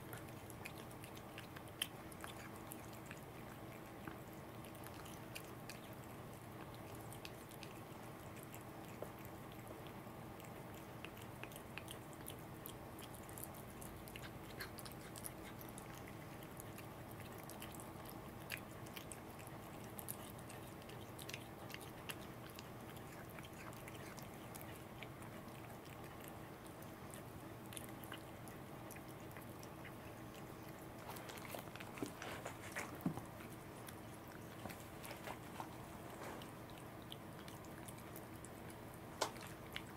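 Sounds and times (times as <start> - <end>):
cat chewing wet smacks: 0.0 - 39.9.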